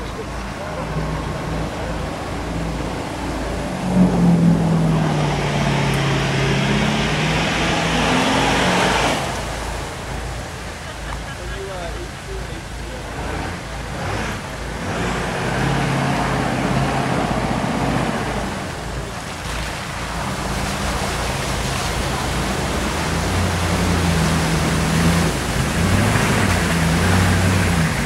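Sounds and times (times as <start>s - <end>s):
water rushing and splashing: 0.0s - 28.0s.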